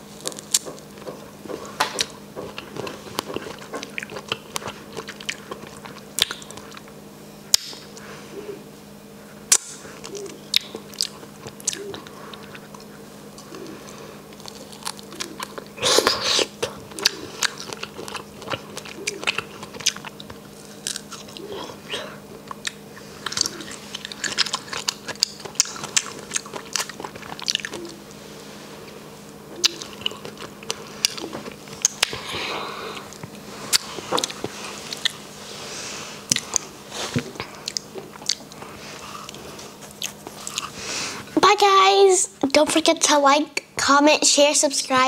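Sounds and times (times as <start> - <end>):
chewing strawberry: 0.0 - 8.5, 9.3 - 40.9.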